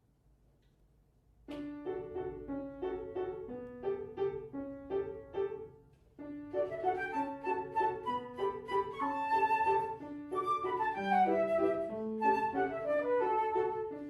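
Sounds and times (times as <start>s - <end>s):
piano playing a waltz: 1.5s - 14.0s.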